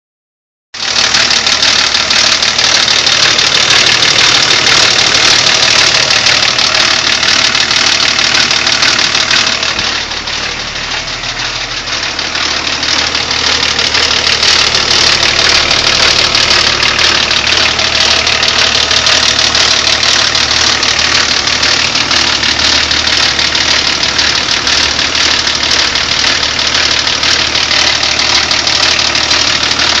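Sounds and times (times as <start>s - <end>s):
diesel engine rattling: 0.8s - 30.0s.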